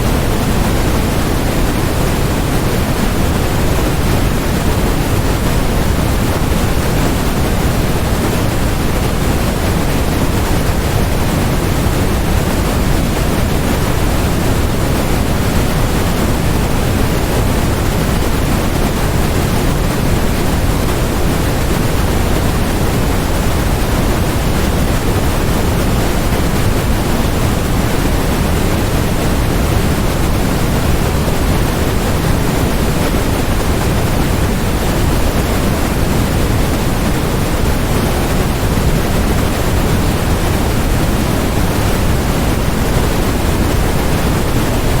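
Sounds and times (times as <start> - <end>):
white noise hiss: 0.0 - 45.0.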